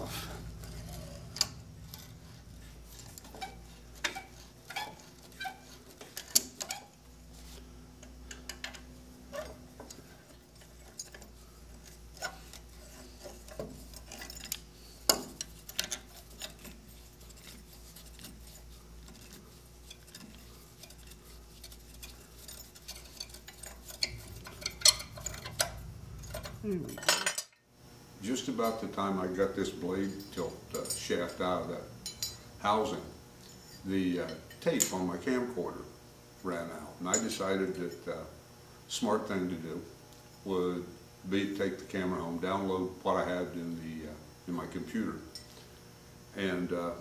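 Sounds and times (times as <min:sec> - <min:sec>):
faint low hum: 0:00.0 - 0:38.4.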